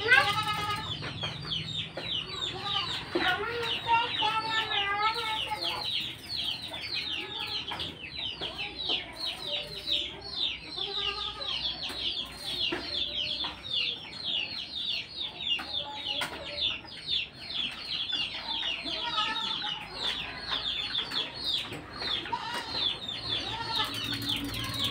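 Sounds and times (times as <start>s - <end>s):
chickens clucking: 0.0s - 24.9s
chicks peeping: 0.0s - 24.9s.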